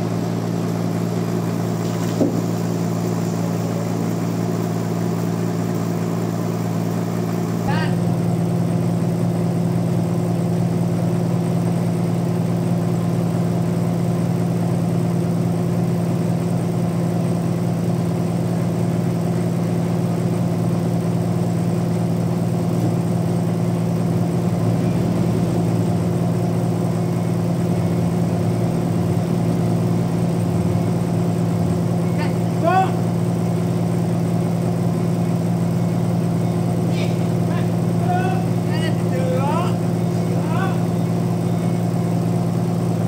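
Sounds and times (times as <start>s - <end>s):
sawmill machinery humming: 0.0s - 43.0s.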